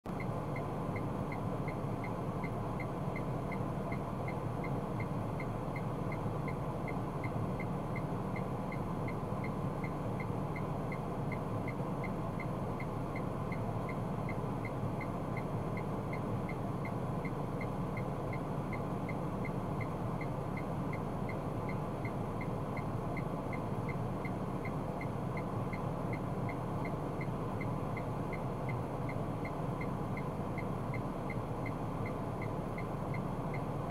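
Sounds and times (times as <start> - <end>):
low hum of car driving: 0.0 - 33.9.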